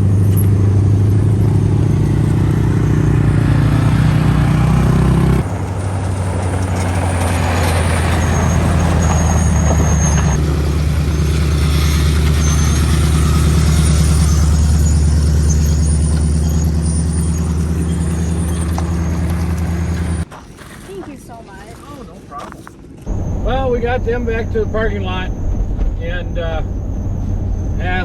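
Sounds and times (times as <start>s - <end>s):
truck engine droning: 0.0s - 20.3s, 23.0s - 28.0s.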